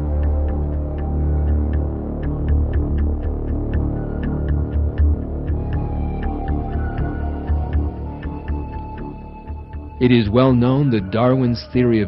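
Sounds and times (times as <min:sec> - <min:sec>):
light ticking beat: 0:00.0 - 0:12.0
low pulsing bass: 0:00.0 - 0:12.0.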